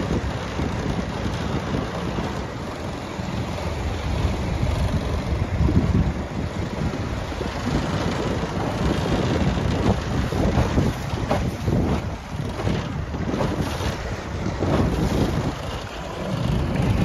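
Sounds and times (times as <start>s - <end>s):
outboard motor and water rumble: 0.0s - 17.0s
wind buffeting microphone: 0.0s - 17.0s.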